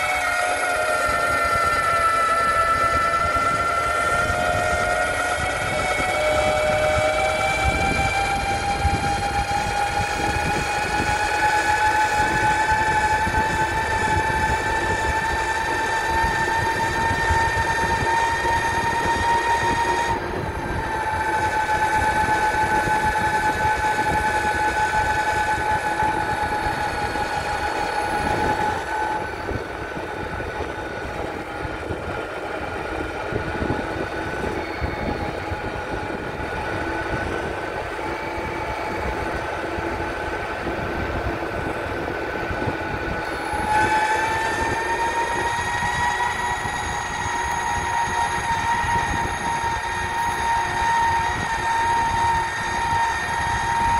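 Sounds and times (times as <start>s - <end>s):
electric motors whining: 0.0s - 53.9s
wheels rumbling over ground: 0.0s - 53.9s.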